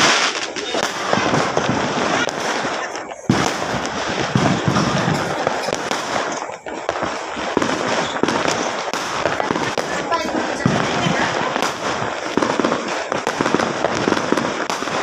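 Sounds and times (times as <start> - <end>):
fireworks crackling bangs and pops: 0.0 - 15.0.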